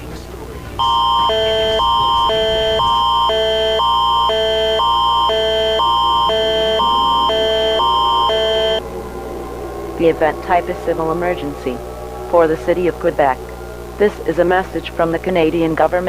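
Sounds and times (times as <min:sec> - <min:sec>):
alternating emergency alert tones: 0:00.8 - 0:16.0.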